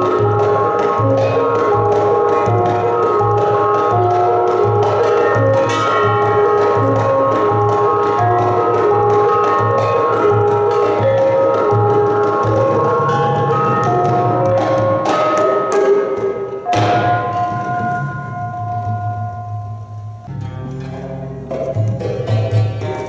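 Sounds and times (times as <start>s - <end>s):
gamelan ensemble playing: 0.0s - 23.0s.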